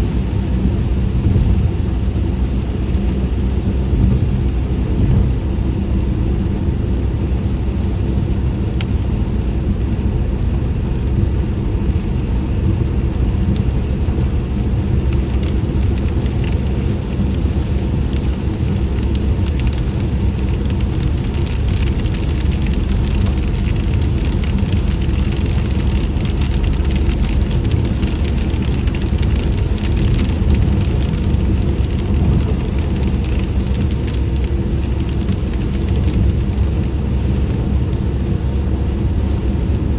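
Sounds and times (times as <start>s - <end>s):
low rumble of car driving: 0.0s - 39.9s
raindrops ticking on car: 0.0s - 39.9s.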